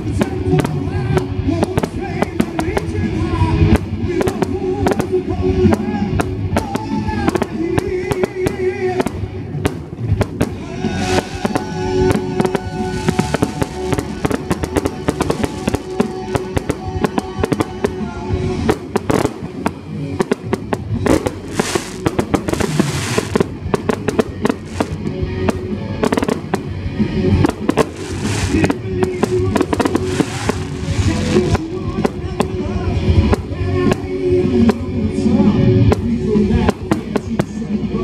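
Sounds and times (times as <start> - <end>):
fireworks bursting and crackling: 0.0 - 35.0, 35.9 - 38.0
music with held notes: 0.0 - 38.0.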